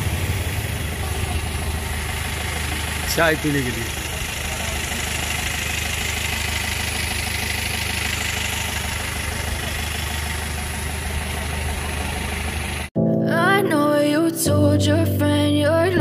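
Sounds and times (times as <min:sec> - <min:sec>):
vehicle engine idling: 0:00.0 - 0:12.9.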